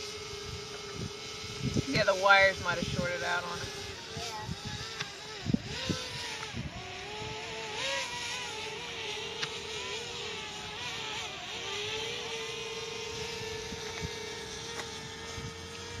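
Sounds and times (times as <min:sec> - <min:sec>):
drone propellers humming: 0:00.0 - 0:16.0
wind hiss: 0:00.0 - 0:16.0.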